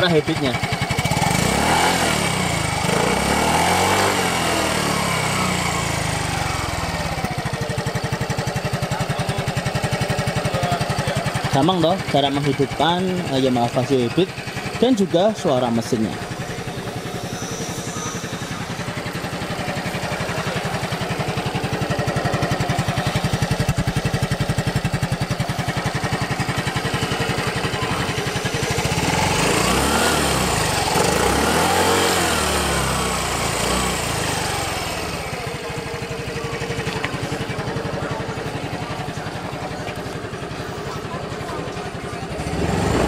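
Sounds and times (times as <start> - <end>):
scooter engine idling: 0.0 - 43.0
louder engine rising and falling: 1.0 - 7.5, 11.5 - 40.1, 42.3 - 43.0.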